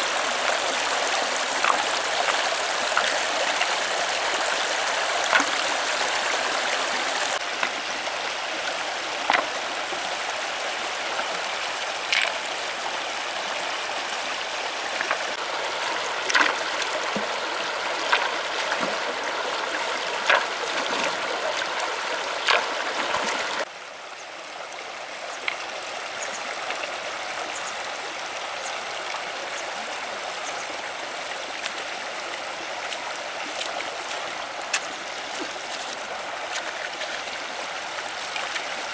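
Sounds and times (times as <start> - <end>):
river water running over stones: 0.0 - 38.9.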